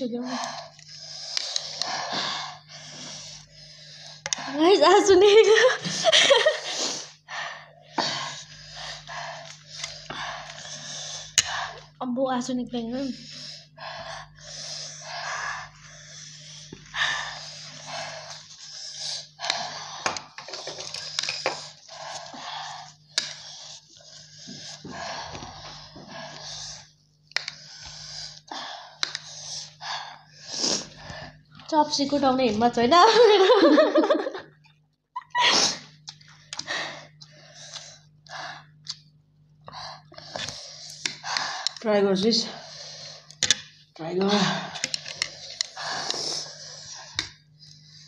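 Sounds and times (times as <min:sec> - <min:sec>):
people breathing hard through mouth: 0:00.2 - 0:04.6, 0:05.8 - 0:12.0, 0:13.0 - 0:31.6, 0:35.4 - 0:39.0, 0:39.6 - 0:41.8, 0:42.4 - 0:48.0.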